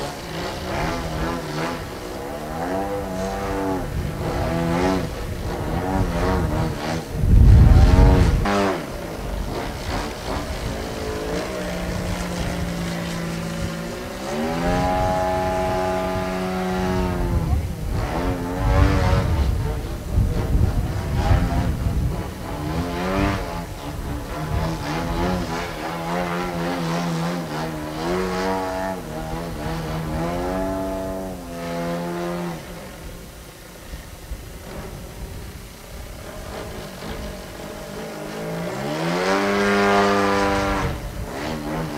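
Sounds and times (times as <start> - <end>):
model plane engine droning: 0.0 - 41.9.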